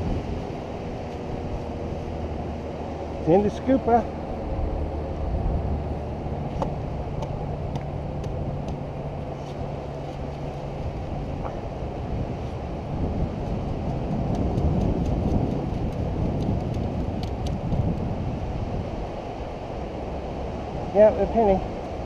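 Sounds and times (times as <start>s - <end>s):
beach surf: 0.0s - 22.0s
wind rumbling on microphone: 0.0s - 22.0s.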